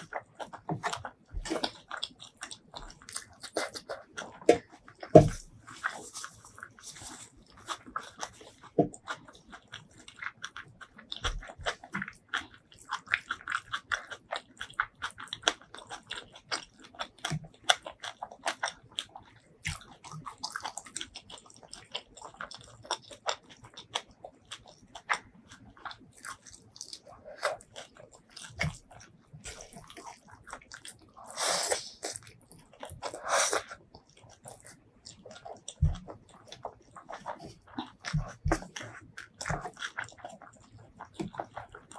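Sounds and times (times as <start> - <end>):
wet chewing and mouth clicks: 0.0 - 41.9.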